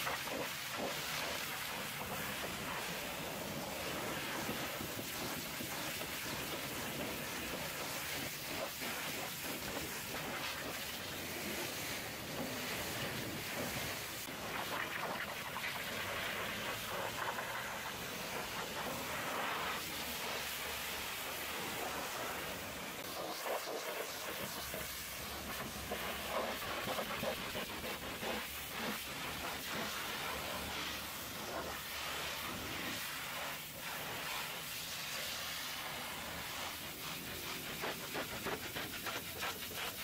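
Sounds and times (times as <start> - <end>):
pressure washer spraying metal: 0.0 - 40.0.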